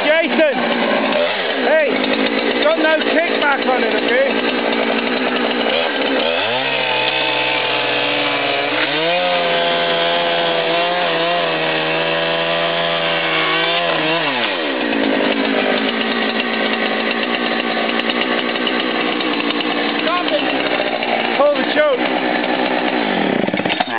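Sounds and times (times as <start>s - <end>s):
chainsaw cutting: 0.0s - 23.9s.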